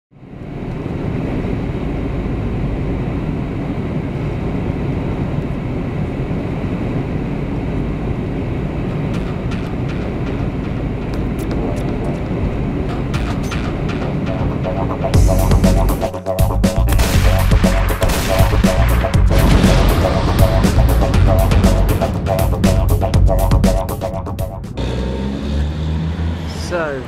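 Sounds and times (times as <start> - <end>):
jet cabin engine noise: 0.1 - 24.8.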